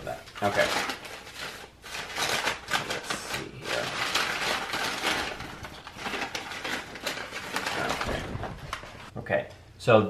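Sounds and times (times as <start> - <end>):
packing paper crinkling: 0.0 - 9.1.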